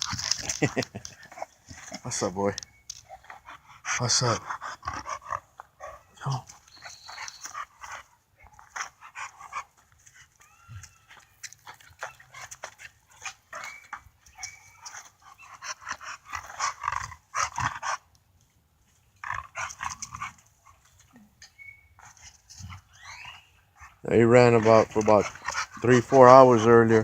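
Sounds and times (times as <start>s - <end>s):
dogs whimpering: 0.0s - 17.9s, 19.2s - 27.0s.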